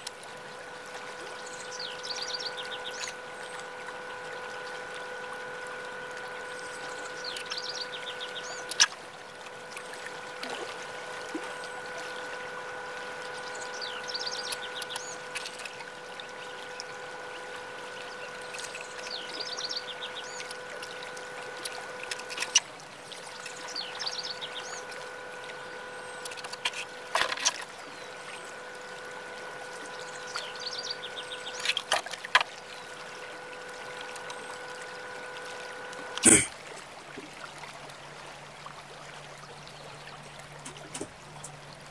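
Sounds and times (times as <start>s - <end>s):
steady high hum: 0.0s - 41.9s.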